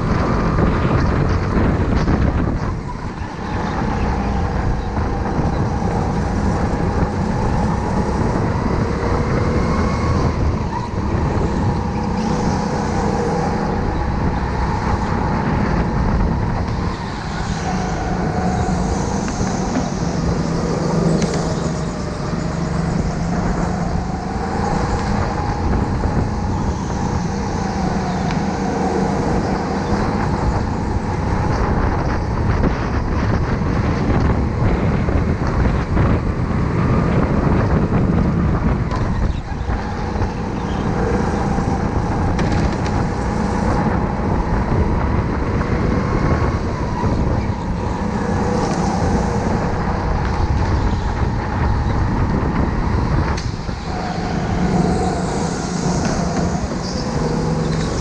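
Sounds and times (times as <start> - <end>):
go-kart motor revving: 0.0 - 58.0.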